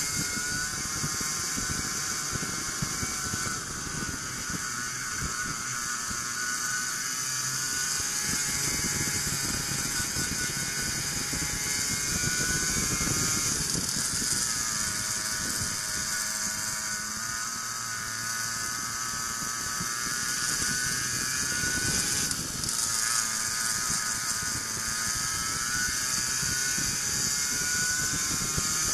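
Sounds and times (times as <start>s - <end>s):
go-kart engine at high revs: 0.0s - 28.9s
wind hiss on microphone: 0.0s - 28.9s.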